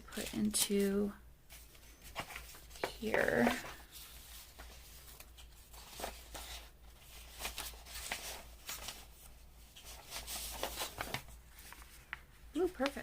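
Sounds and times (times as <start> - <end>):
paper rustling: 0.1 - 13.0.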